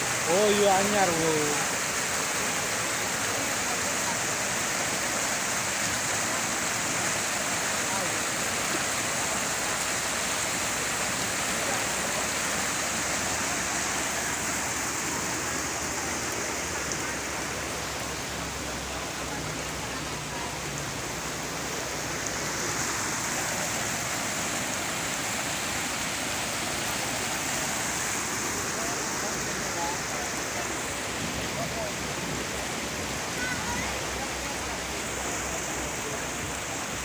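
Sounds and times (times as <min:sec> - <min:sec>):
steady rush of water: 0:00.0 - 0:37.0.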